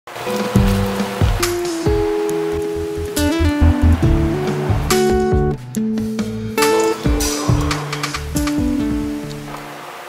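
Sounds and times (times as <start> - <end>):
guitar-led background music: 0.1 - 9.7.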